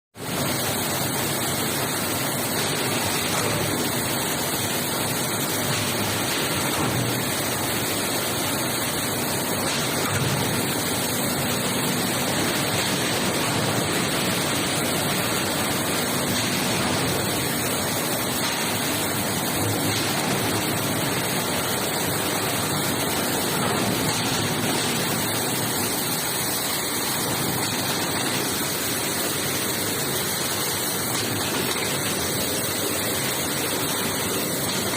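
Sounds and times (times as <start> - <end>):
water jets spraying: 0.3 - 34.9.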